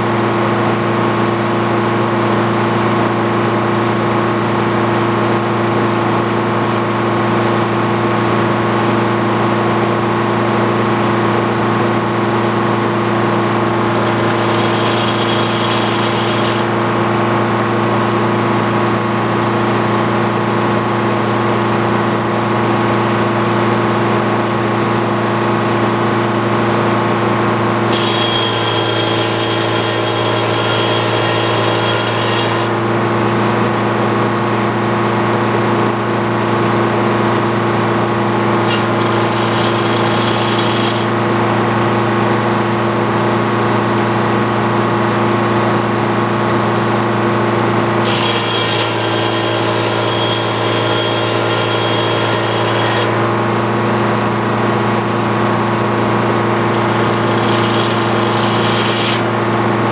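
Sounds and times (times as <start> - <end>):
motor running steadily: 0.0 - 59.9.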